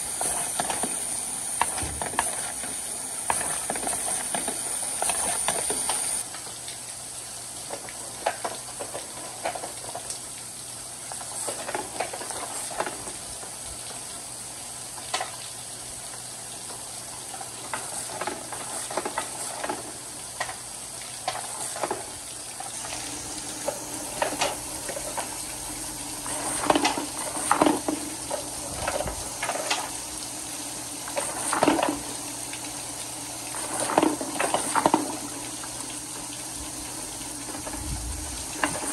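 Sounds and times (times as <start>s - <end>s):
water trickling down plastic chutes: 0.0s - 38.9s.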